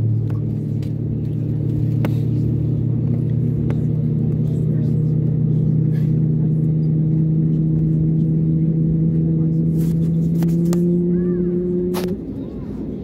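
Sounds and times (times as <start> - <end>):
aircraft engines droning in cabin: 0.0 - 13.0.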